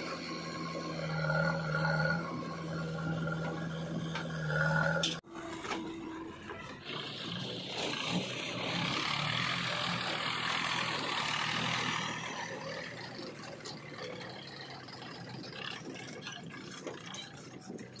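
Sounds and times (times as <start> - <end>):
tractor diesel engine: 0.0 - 18.0.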